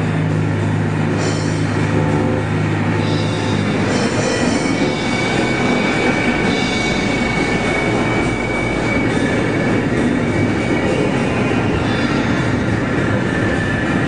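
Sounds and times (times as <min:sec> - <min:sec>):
thin high tone: 0:01.2 - 0:12.5.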